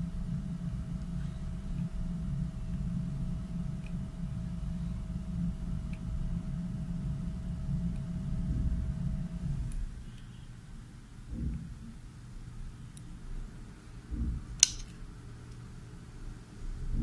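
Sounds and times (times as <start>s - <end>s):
faint steady whine: 0.0s - 17.0s
low background rumble: 0.0s - 17.0s.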